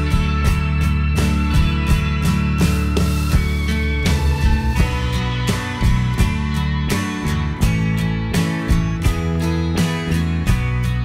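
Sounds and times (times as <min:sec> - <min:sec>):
guitar music over steady beat: 0:00.0 - 0:11.0.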